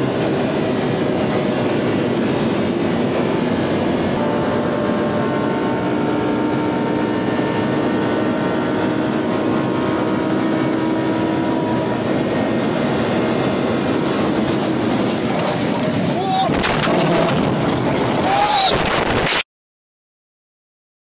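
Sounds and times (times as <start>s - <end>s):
car engine droning: 0.0s - 19.0s
wind and road noise: 0.0s - 19.4s.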